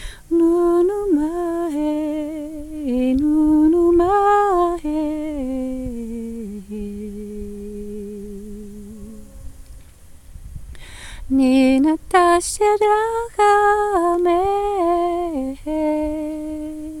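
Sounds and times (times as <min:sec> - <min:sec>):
person humming a melody: 0:00.0 - 0:09.5, 0:11.3 - 0:17.0.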